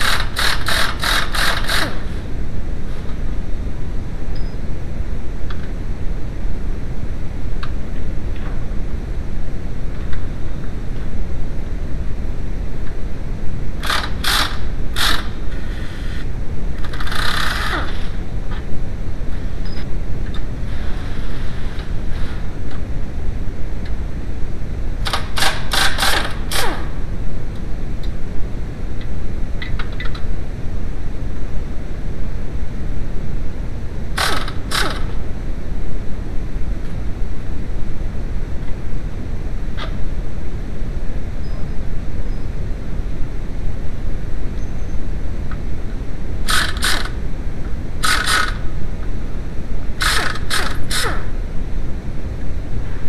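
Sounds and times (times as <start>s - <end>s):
low rumbling noise: 0.0s - 53.0s.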